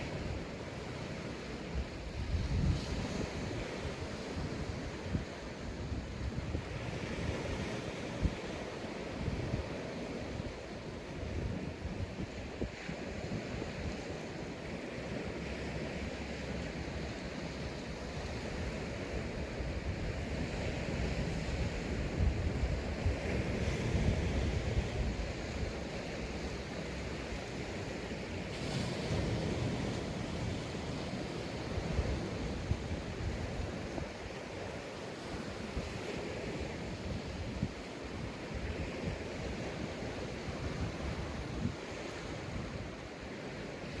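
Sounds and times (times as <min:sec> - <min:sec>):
sea waves washing up beach: 0:00.0 - 0:44.0
wind buffeting microphone: 0:01.7 - 0:14.5, 0:17.0 - 0:44.0.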